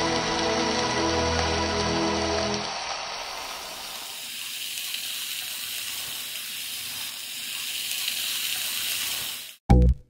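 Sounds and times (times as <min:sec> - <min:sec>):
vegetables frying in hot oil: 0:00.0 - 0:09.6.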